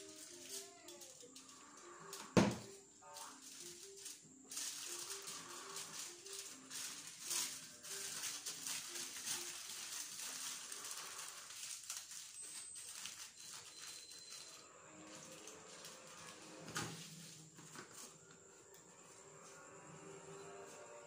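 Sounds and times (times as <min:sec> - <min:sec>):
aluminium foil crinkling: 0:00.0 - 0:18.6
faint simple tune: 0:00.0 - 0:21.0.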